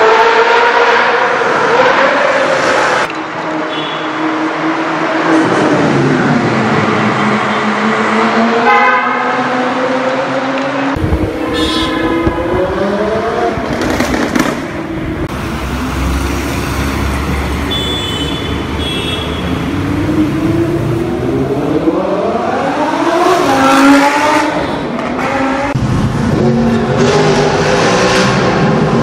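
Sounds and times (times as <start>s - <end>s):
car engines accelerating hard: 0.0s - 17.7s, 19.5s - 29.0s.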